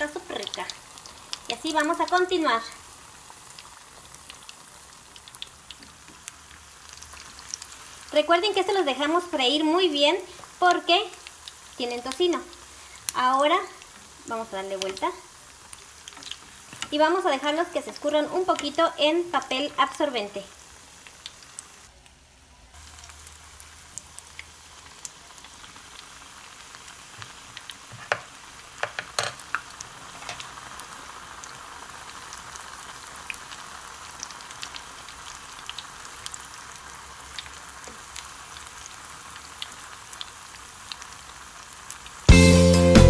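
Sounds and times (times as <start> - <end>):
food deep-frying in oil: 0.0 - 42.3.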